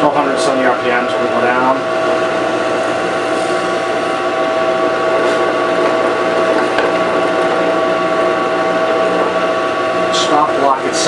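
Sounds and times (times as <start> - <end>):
drill press humming and whining: 0.0 - 11.0.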